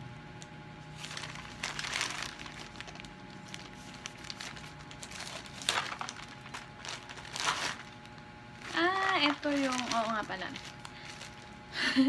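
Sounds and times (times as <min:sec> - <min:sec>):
packaging crinkling: 0:00.9 - 0:11.7.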